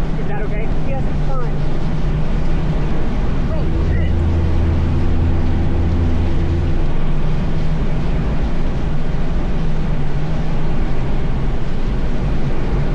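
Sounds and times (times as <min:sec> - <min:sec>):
low engine-like hum: 0:00.0 - 0:12.9
strong wind rushing: 0:00.0 - 0:12.9.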